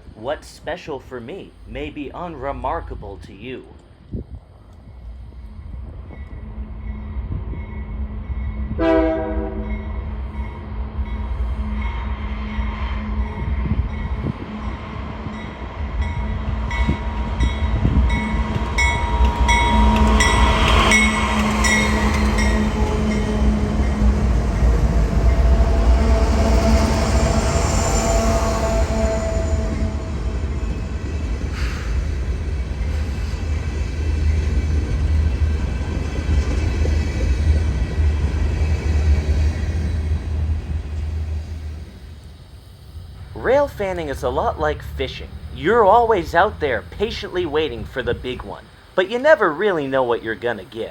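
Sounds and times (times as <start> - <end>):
train engine rumble: 0.0 - 50.9.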